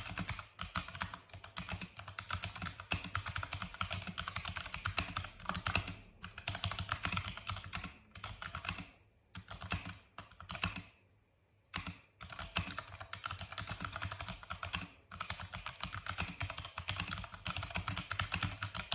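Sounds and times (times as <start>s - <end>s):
mechanical keyboard typing: 0.0s - 11.0s, 11.7s - 18.9s.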